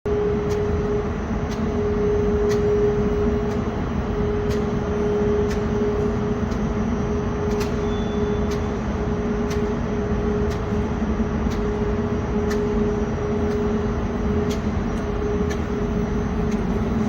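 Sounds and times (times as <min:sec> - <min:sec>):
steady hum: 0:00.1 - 0:17.0.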